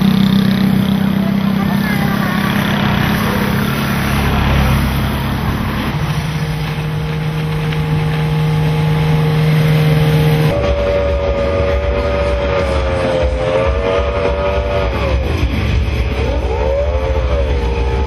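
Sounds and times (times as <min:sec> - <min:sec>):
outboard motors running: 0:00.0 - 0:18.0.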